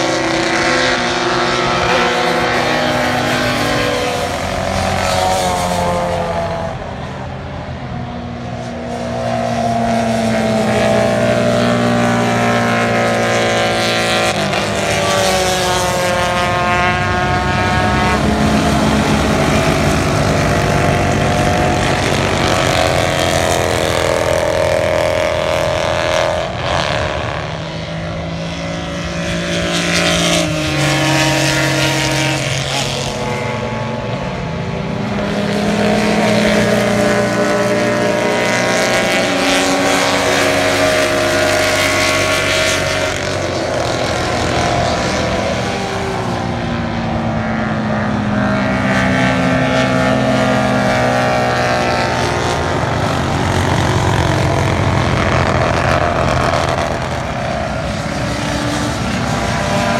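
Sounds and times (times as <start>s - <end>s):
racing motorcycle engines revving: 0.0s - 59.9s.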